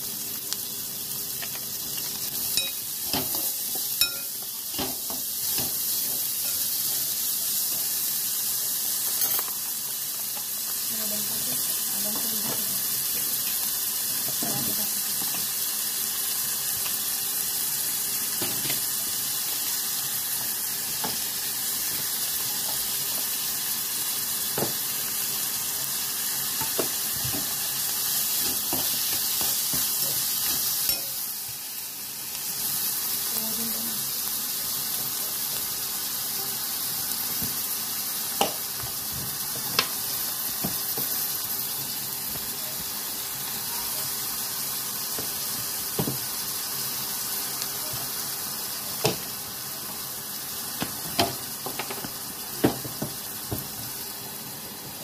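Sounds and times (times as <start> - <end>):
vegetables sizzling in a wok: 0.0 - 55.0.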